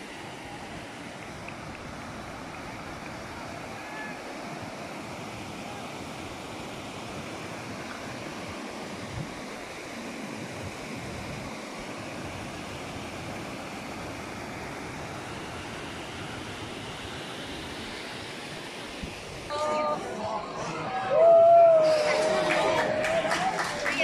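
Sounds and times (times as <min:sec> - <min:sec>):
stream rushing over rocks: 0:00.0 - 0:20.6.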